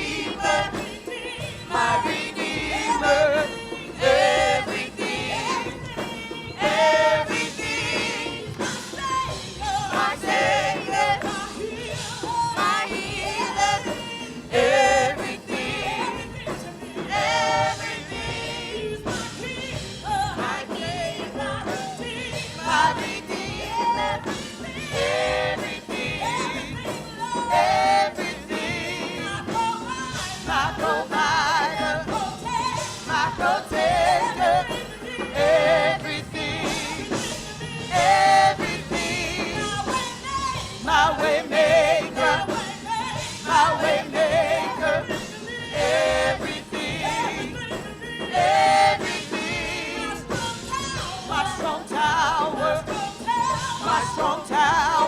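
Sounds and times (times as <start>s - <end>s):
gospel singing: 0.0s - 55.0s
instrumental backing: 0.0s - 55.0s.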